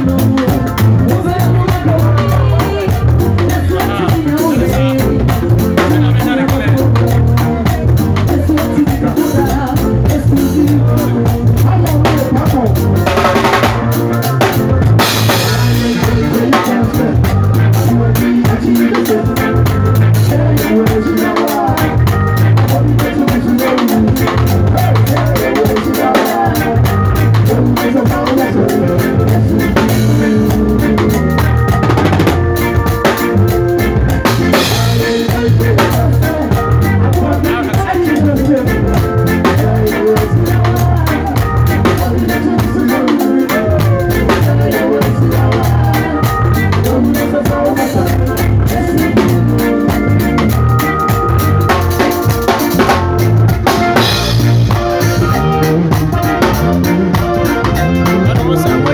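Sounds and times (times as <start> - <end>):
drum kit played hard: 0.0 - 58.9
live band music: 0.0 - 58.9
low bass line: 0.0 - 58.9.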